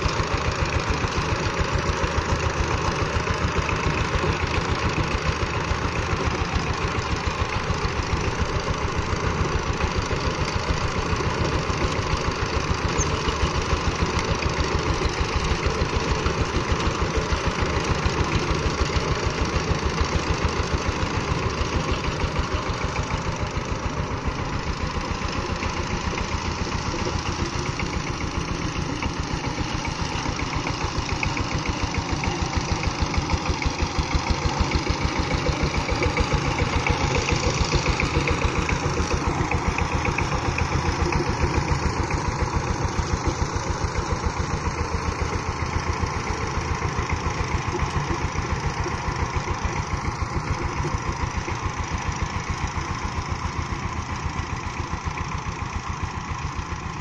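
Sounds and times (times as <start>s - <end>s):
rotary tines churning soil: 0.0s - 54.9s
diesel engine chugging: 0.0s - 57.0s.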